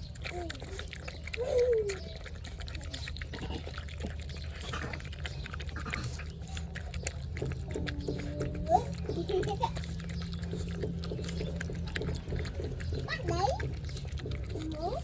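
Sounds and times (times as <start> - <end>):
puppies eating wet smacking: 0.0 - 15.0.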